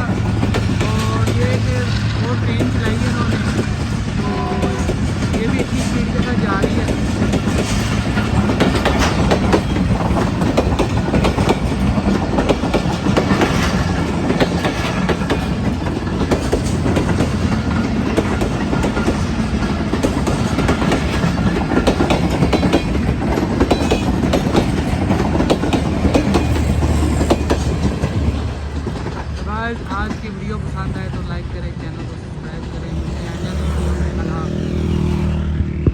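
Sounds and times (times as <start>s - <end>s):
train wheels rushing on rail: 0.0s - 35.9s
wheels clacking over rail joints: 0.0s - 35.9s.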